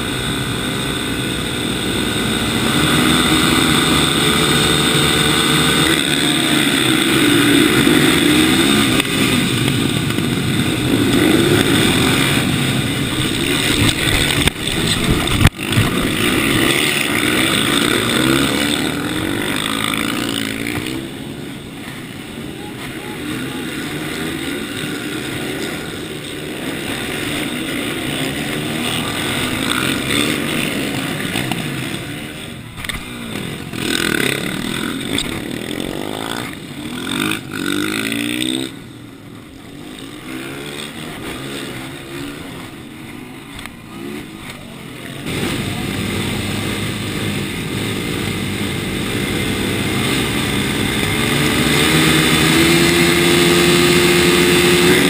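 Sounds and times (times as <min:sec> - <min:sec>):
group of motorcycles idling and revving: 0:00.0 - 0:55.0
motorcycle engine revving: 0:00.0 - 0:55.0.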